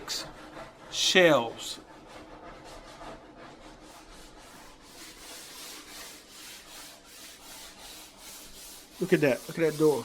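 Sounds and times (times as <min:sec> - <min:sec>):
hand sanding wood: 0:00.0 - 0:10.0.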